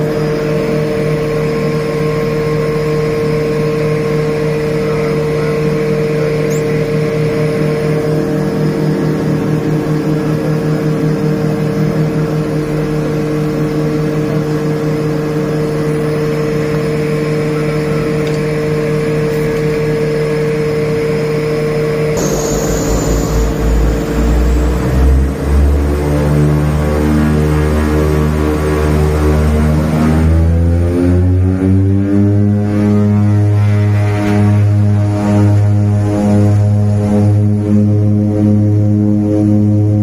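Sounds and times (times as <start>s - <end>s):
turboprop engines droning: 0.0s - 40.0s.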